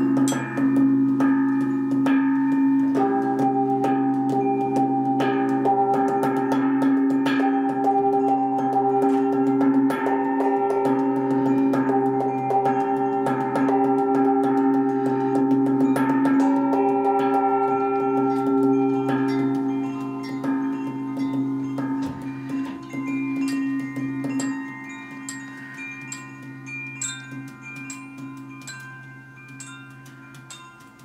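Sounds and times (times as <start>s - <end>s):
rapid metal percussion strikes: 0.0s - 31.0s
ringing gong drone: 0.0s - 31.0s.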